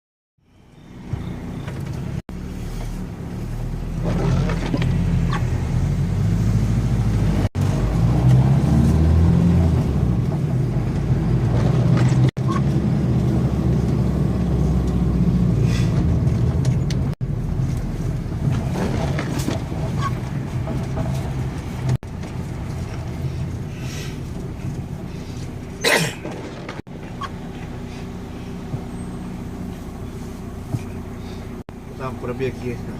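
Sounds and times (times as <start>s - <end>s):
vehicle engine rumbling: 0.4s - 32.9s.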